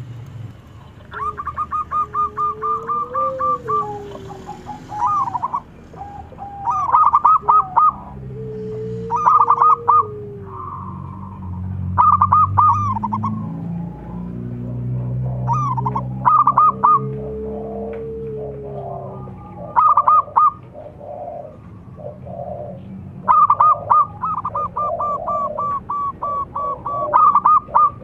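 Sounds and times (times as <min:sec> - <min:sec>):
doves cooing: 0:00.0 - 0:28.0.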